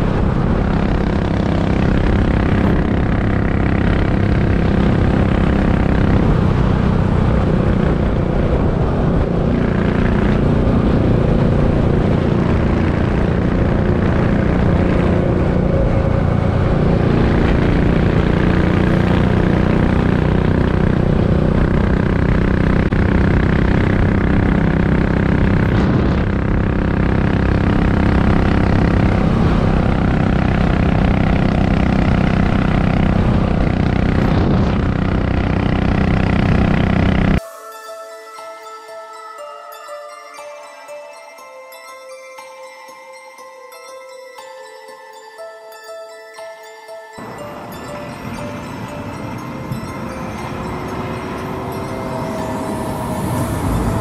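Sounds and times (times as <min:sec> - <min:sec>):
motorcycle engine cruising: 0:00.0 - 0:37.4, 0:47.1 - 0:54.0.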